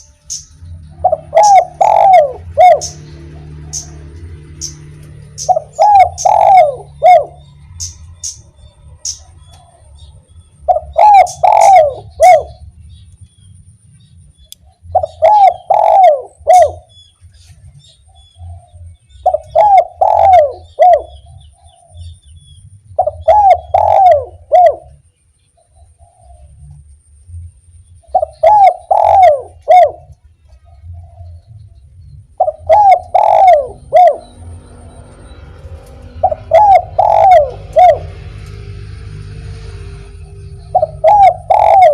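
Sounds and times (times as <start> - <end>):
dove cooing: 0.0 - 8.4, 9.0 - 12.6, 14.8 - 16.9, 18.3 - 22.1, 23.0 - 25.0, 28.0 - 41.9
small birds chirping: 0.0 - 41.9.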